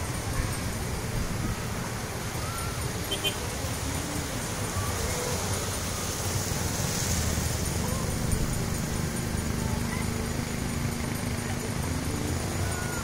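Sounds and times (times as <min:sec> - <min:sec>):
surf washing on shore: 0:00.0 - 0:13.0.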